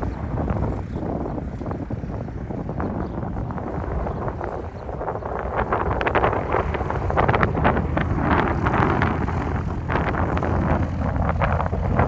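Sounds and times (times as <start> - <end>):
distant jet engines rumbling: 0.0 - 12.0
wind gusting on microphone: 0.0 - 12.0.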